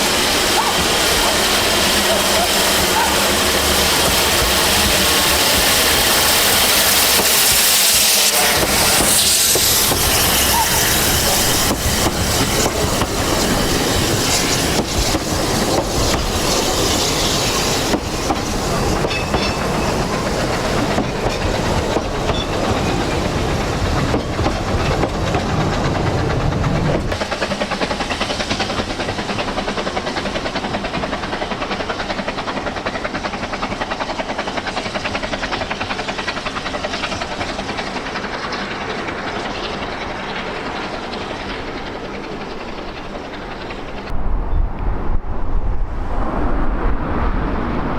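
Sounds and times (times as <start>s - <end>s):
train wheels clattering over rails: 0.0s - 44.1s.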